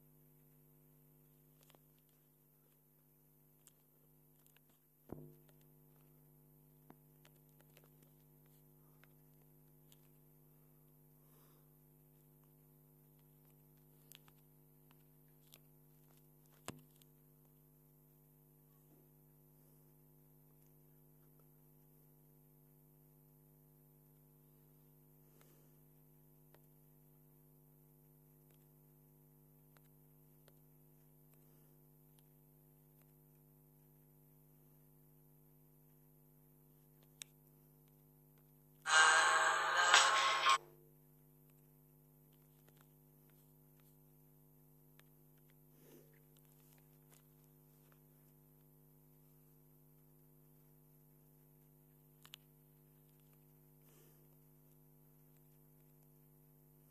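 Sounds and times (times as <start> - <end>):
faint electrical hum: 0.0 - 56.9.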